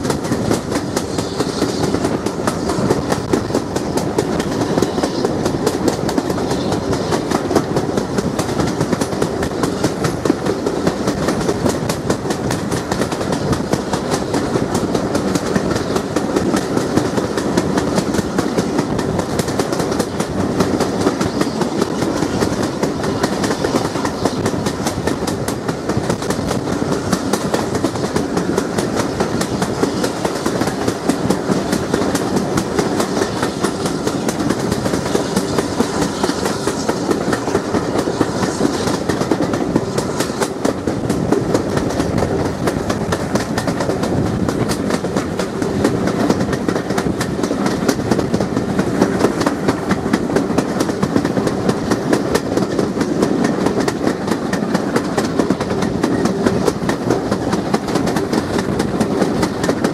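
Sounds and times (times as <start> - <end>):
train wheels rushing on rails: 0.0 - 59.9
wind rushing: 0.0 - 59.9.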